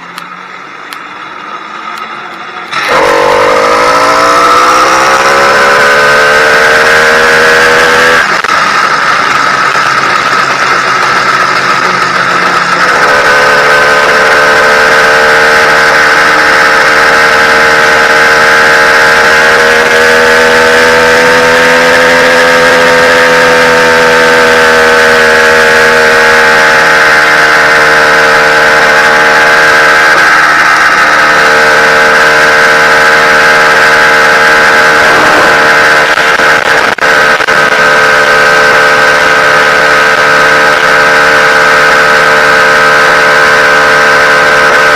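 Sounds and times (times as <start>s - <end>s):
two-stroke engine running at high revs: 0.0s - 44.9s.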